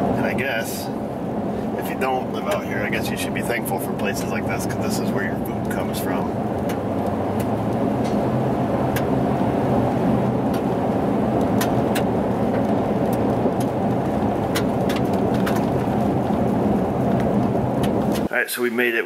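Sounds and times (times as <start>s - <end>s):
car engine cruising: 0.0s - 18.3s
tyres rumbling on gravel: 0.0s - 18.3s
stones ticking against car: 1.9s - 18.3s.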